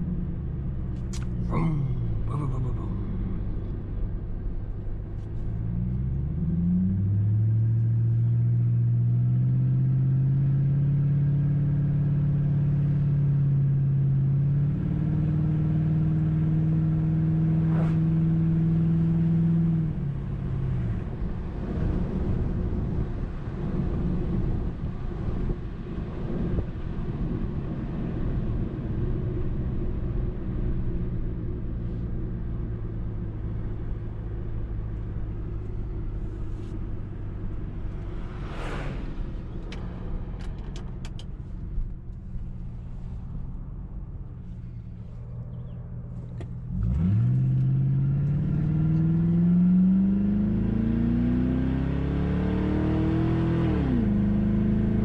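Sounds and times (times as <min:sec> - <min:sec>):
car exhaust accelerating: 0:00.0 - 0:55.0.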